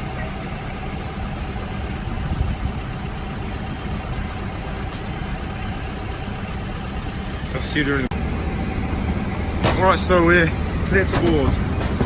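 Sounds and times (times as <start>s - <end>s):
aircraft machinery rumble: 0.0s - 12.0s.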